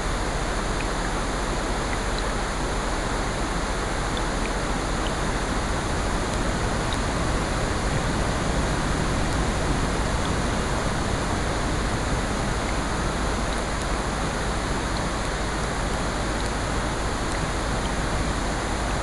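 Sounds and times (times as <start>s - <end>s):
rain: 0.0s - 19.0s.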